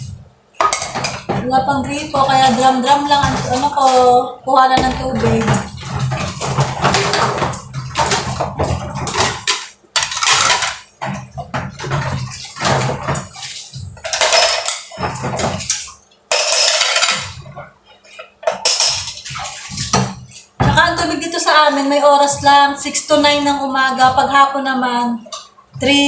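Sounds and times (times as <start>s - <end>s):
dishes clinking and clattering: 0.0s - 4.2s, 4.8s - 24.6s
water splashing: 0.0s - 26.0s.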